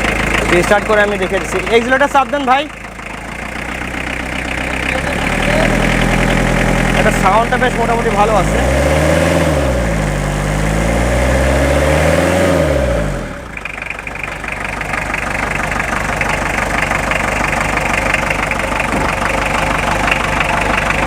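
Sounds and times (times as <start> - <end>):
diesel engine revving and idling: 0.0 - 21.0.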